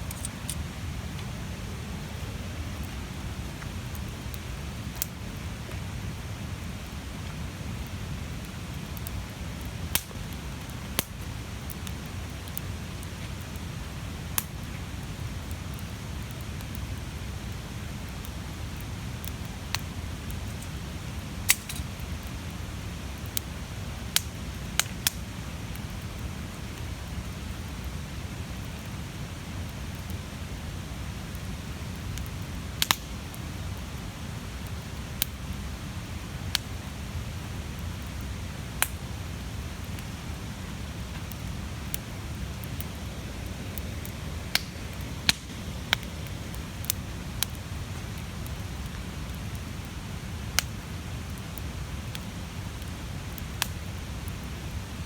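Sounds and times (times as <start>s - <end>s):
bonfire flame rushing: 0.0s - 55.0s
burning wood popping and crackling: 0.0s - 55.0s.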